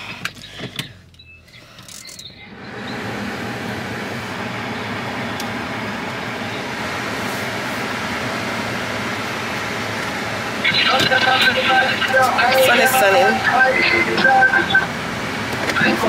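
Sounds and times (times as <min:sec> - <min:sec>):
rushing noise inside car: 0:00.0 - 0:16.0.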